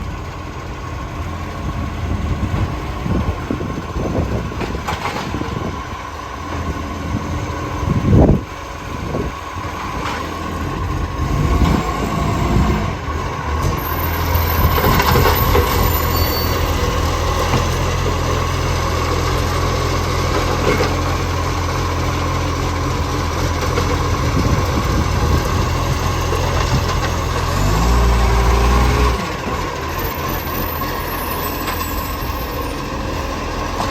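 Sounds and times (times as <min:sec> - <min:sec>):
garbage truck engine running: 0:00.0 - 0:33.9.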